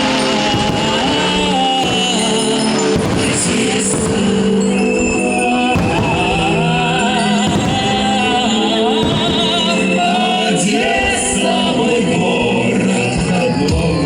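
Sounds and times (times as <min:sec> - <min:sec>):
choir singing with vibrato: 0:00.0 - 0:14.0.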